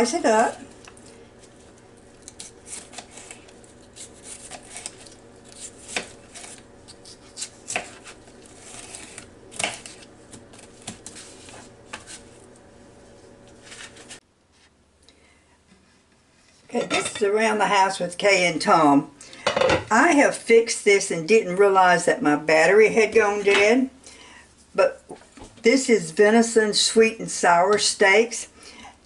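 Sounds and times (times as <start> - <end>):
steady low hum: 0.0 - 26.1.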